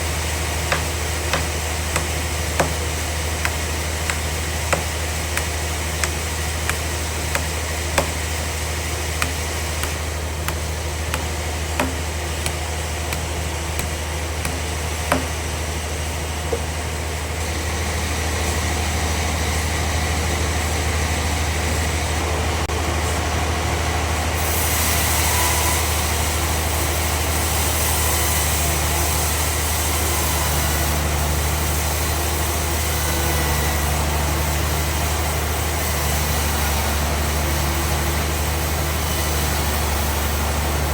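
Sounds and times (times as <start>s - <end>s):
bandsaw machinery humming: 0.0s - 40.9s.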